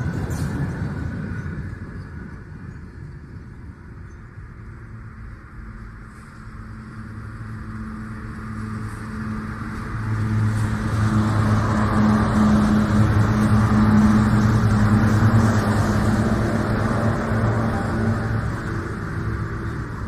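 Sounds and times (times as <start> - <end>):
train engine humming: 0.0 - 20.0.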